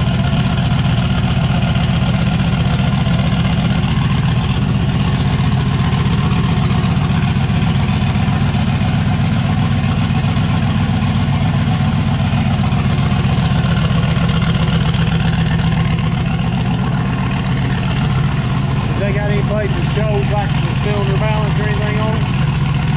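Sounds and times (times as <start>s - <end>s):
pickup engine idling: 0.0s - 22.9s.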